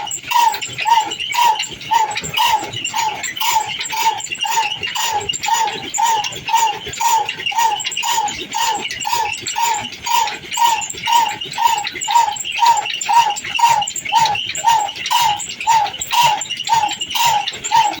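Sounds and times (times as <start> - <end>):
old diesel engine running: 0.0 - 18.0.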